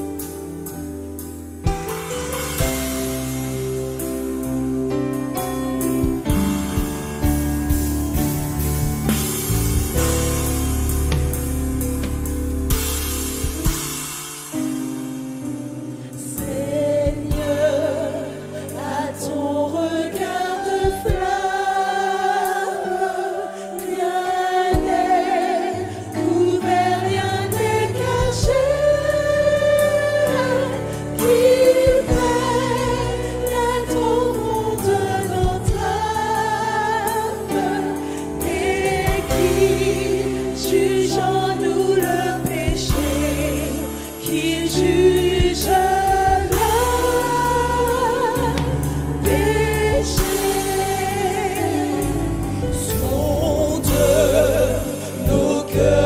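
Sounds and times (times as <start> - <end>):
gospel choir singing: 0.0 - 14.7, 16.0 - 56.0
bass: 0.0 - 22.1, 24.3 - 56.0
percussion: 0.0 - 23.0, 23.8 - 56.0.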